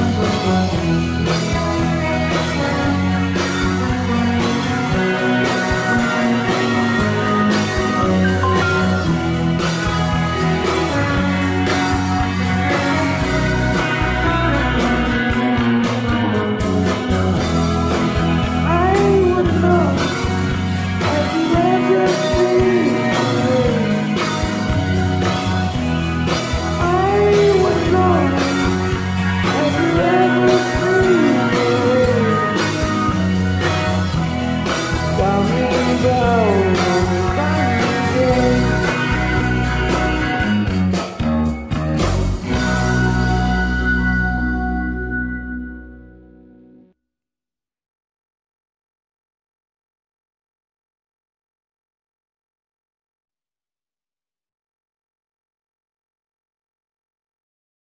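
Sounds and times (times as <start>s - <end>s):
rock band playing: 0.0s - 46.4s
sliding lead melody: 0.0s - 46.8s.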